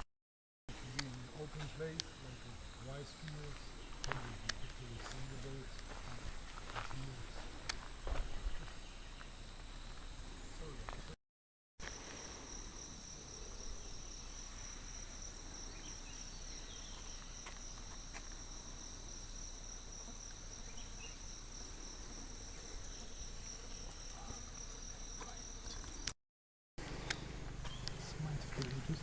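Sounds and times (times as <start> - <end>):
insects buzzing chorus: 0.7 - 11.2, 11.8 - 26.2, 26.8 - 29.0.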